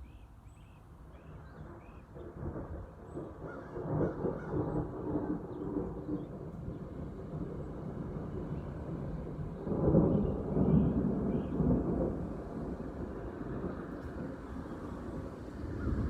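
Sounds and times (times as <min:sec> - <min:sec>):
thunder rumbling: 0:01.3 - 0:16.0.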